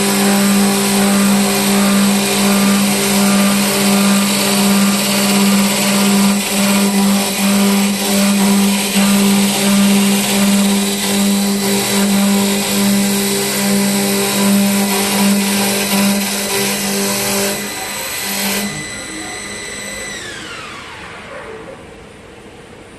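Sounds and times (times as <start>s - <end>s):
wood cutting noise: 0.0s - 22.0s
lathe motor hum: 0.0s - 22.4s
machine winding down whine: 0.0s - 22.6s.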